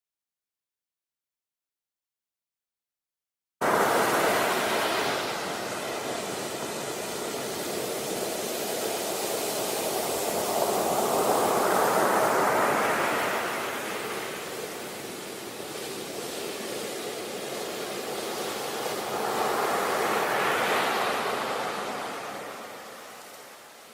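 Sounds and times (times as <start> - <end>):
rushing water: 3.6 - 23.9.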